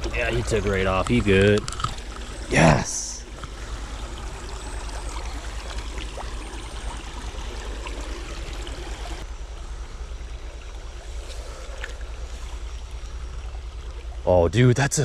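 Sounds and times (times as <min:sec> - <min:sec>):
creek water babbling: 0:00.0 - 0:14.5.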